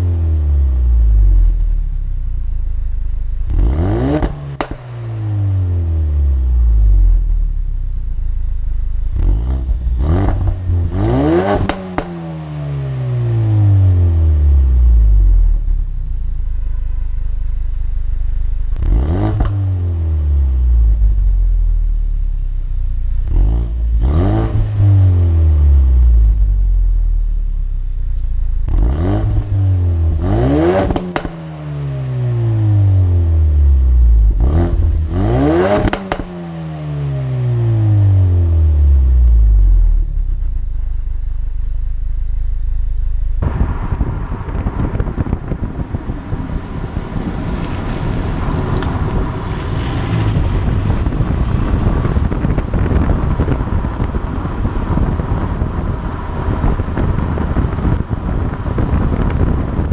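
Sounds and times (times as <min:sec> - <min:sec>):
car exhaust revving: 0:00.0 - 0:59.9.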